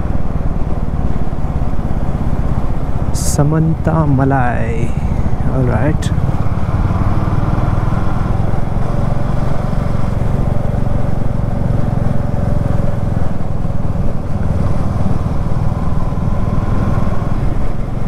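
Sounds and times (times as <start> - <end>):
motorcycle engine running: 0.0 - 18.0
road noise: 0.0 - 18.0.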